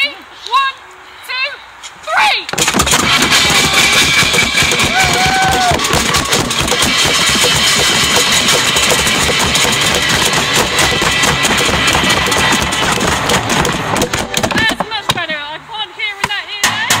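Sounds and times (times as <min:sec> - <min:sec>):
people banging pots and pans: 0:02.6 - 0:15.4, 0:16.2 - 0:17.0.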